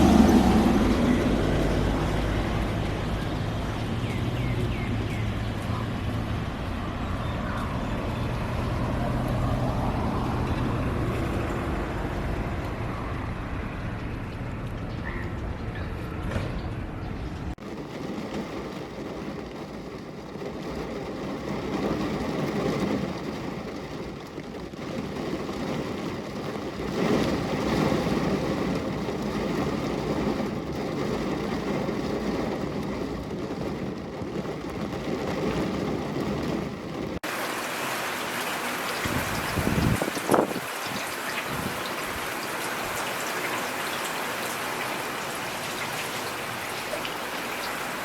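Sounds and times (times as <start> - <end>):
heavy rain: 0.0 - 14.8, 17.5 - 48.0.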